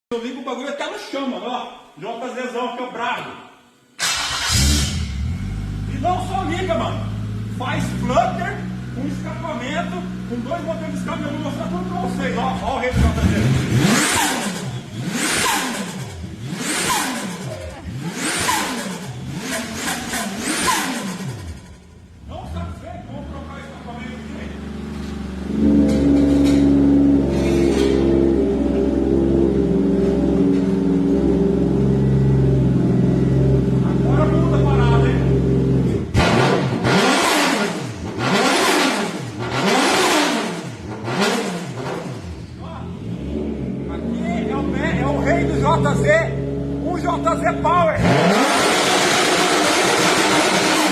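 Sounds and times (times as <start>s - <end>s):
car engine revving: 4.0s - 50.9s.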